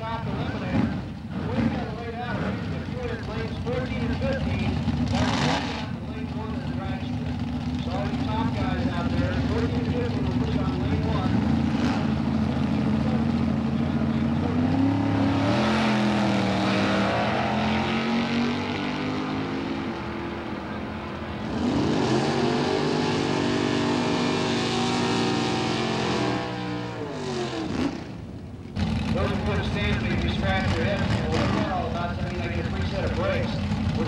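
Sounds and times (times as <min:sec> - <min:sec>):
drag race engines at full throttle: 0:00.0 - 0:34.0.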